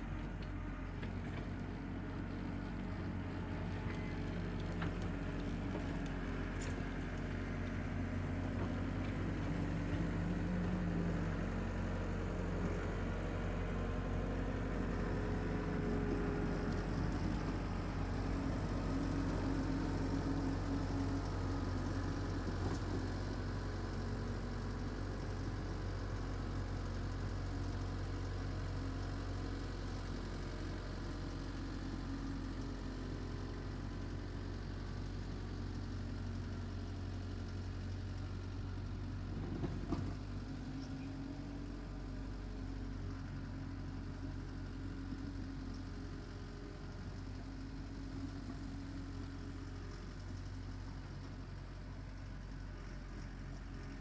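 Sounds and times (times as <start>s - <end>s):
tractor engine running: 0.0s - 40.8s, 41.4s - 54.0s.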